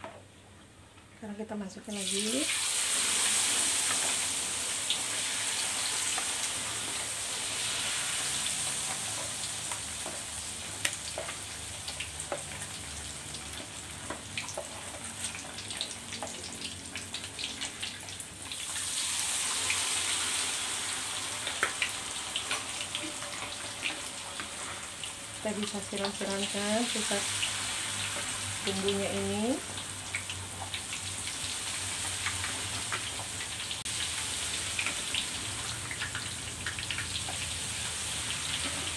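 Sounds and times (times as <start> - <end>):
batter deep-frying in oil: 1.2 - 38.9.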